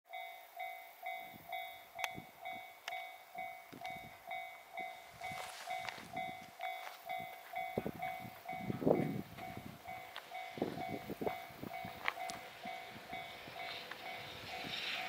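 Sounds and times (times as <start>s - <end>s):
level crossing warning bell: 0.1s - 14.7s.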